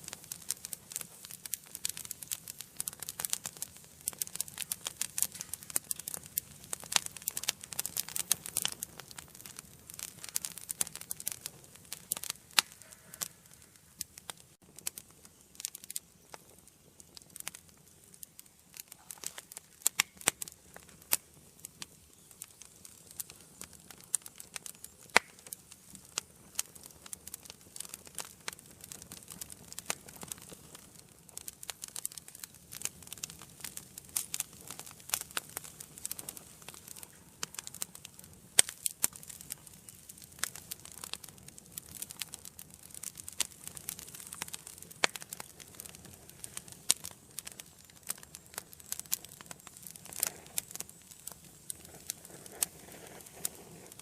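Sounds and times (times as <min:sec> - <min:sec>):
soft hiss of fire: 0:00.0 - 0:54.0
wood fire crackling and popping: 0:00.0 - 0:54.0.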